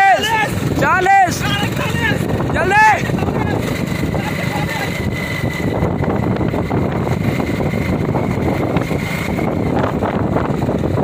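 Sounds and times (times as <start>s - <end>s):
vehicle engine running: 0.0s - 11.0s
wind rushing over microphone: 0.0s - 11.0s.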